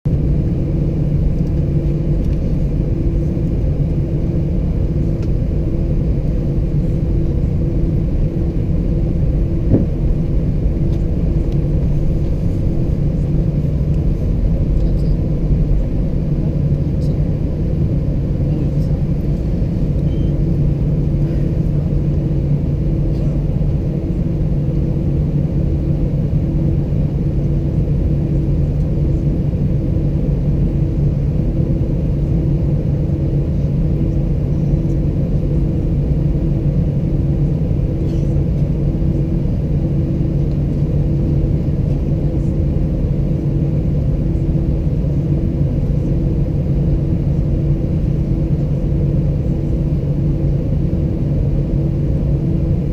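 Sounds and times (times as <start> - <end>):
aircraft cabin engine hum: 0.1 - 52.9.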